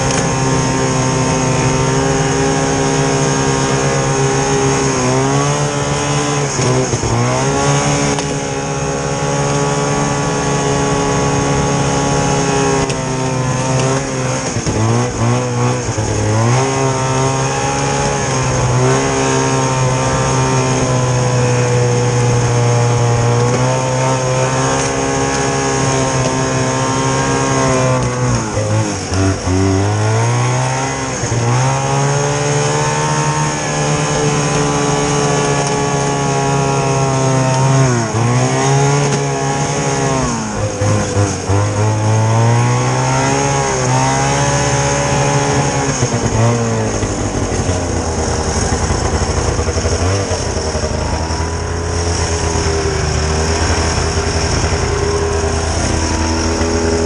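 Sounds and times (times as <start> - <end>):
two-stroke snowmobile engine running: 0.0 - 57.0.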